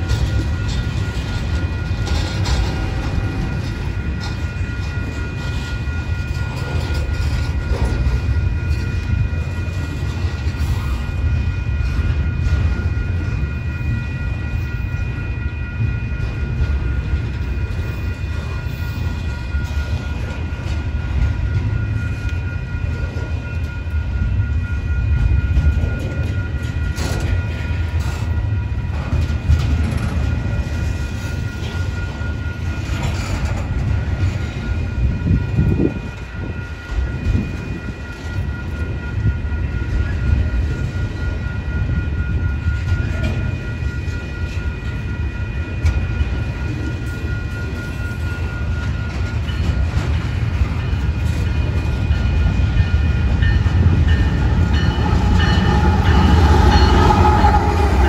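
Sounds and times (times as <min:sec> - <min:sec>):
freight train rumbling over rails: 0:00.0 - 0:58.0
high-pitched tone: 0:00.0 - 0:58.0.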